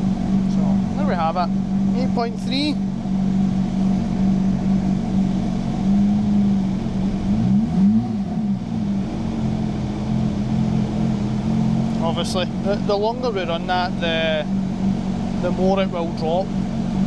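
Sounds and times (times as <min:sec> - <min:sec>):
air conditioning running: 0:00.0 - 0:17.0
car engine idling: 0:00.0 - 0:17.0.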